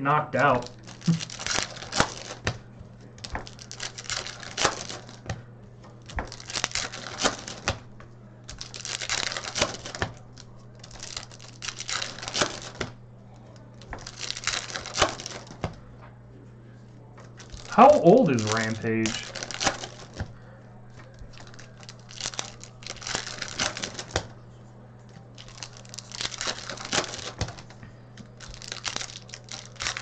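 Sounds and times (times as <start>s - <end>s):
low steady hum: 0.0s - 30.0s
wrapper crinkling: 0.5s - 2.6s, 3.2s - 5.3s, 6.0s - 7.9s, 8.5s - 15.8s, 17.2s - 20.4s, 21.0s - 24.3s, 25.3s - 30.0s.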